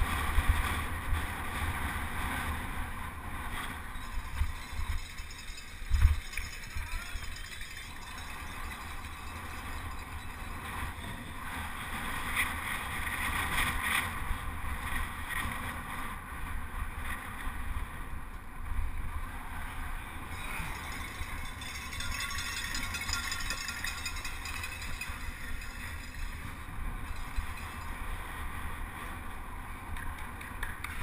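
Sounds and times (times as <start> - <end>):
wind buffeting microphone: 0.0 - 30.6.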